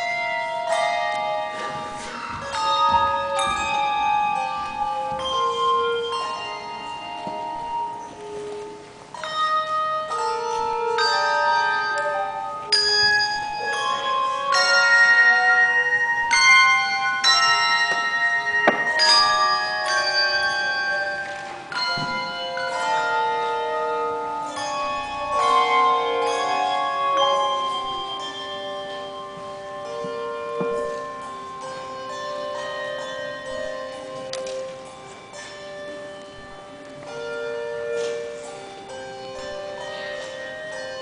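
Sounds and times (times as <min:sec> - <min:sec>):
handbells ringing chords: 0:00.0 - 0:41.0.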